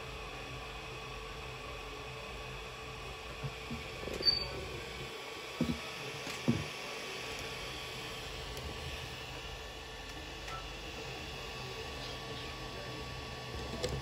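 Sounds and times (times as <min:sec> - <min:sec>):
printer fans whirring: 0:00.0 - 0:14.0.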